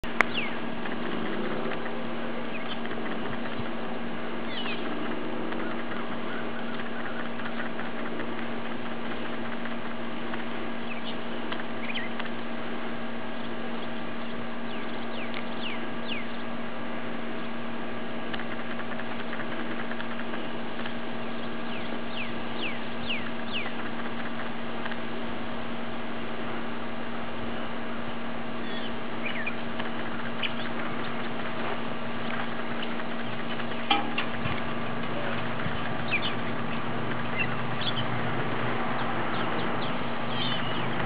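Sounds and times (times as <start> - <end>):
birds chirping: 0.0 - 26.0, 27.5 - 41.0
steady hum: 0.0 - 41.0.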